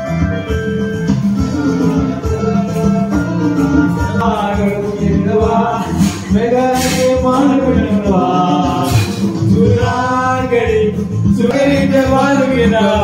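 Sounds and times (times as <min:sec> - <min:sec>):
amplified backing track: 0:00.0 - 0:13.0
man singing karaoke: 0:01.4 - 0:13.0.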